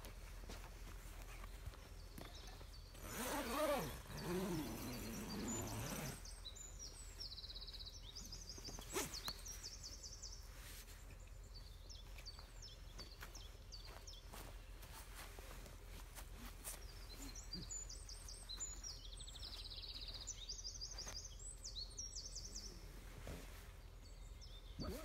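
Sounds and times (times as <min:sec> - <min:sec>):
small birds singing: 0:00.0 - 0:25.0.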